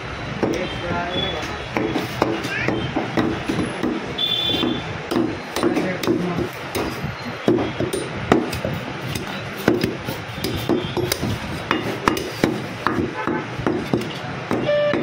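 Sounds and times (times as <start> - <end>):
cleaver chopping meat on wood: 1.7 - 15.0.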